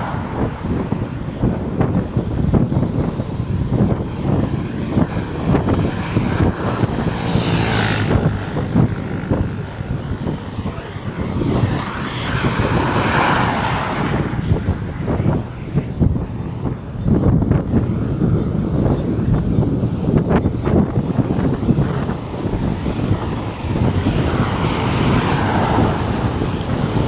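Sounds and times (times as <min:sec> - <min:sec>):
vehicles passing on highway: 0:00.0 - 0:27.0
wind buffeting microphone: 0:00.0 - 0:27.0.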